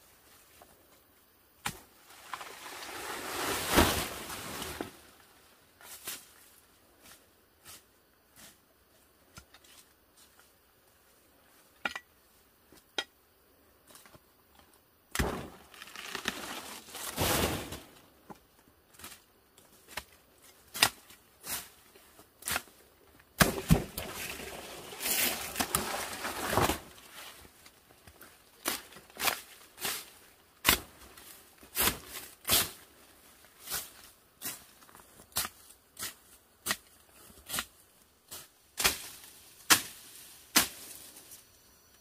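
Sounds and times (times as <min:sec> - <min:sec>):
leaves and undergrowth rustling: 0:00.0 - 0:12.3, 0:15.2 - 0:41.6.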